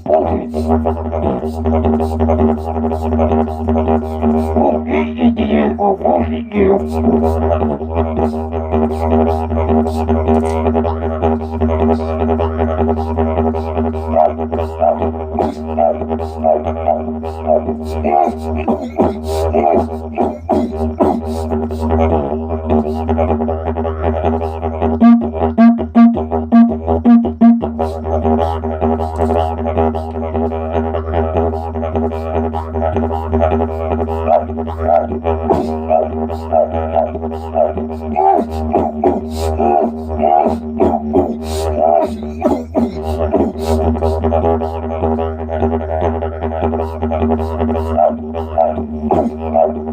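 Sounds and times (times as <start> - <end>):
didgeridoo drone: 0.0 - 49.9.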